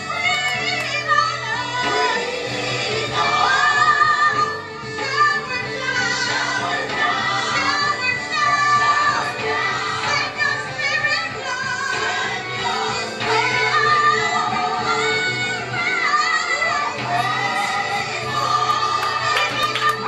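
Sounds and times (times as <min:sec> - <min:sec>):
backing music: 0:00.0 - 0:20.0
gospel singing: 0:00.0 - 0:20.0.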